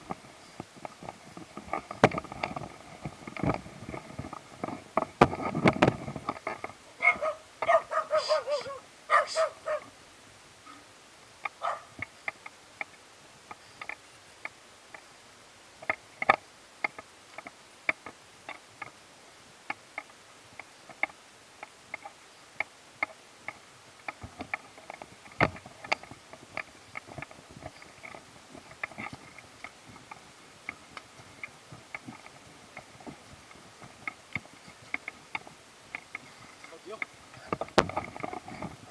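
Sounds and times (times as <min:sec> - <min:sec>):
low background hiss: 0:00.0 - 0:38.9.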